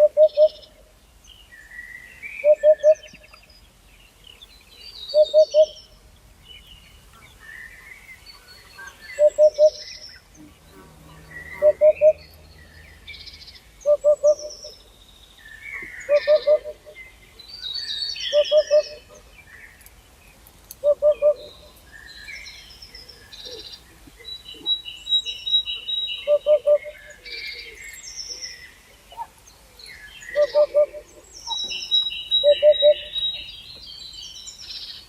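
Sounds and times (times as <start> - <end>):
birds chirping and warbling: 0.0 - 35.0.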